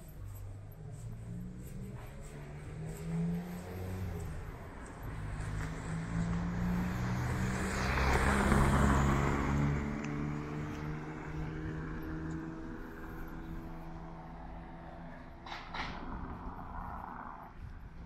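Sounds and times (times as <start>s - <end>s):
vehicle driving past: 0.4s - 17.8s.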